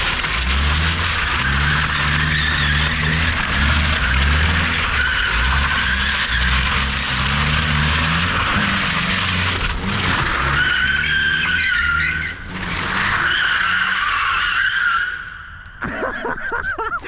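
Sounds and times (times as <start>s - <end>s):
car engine at high revs: 0.0s - 15.5s.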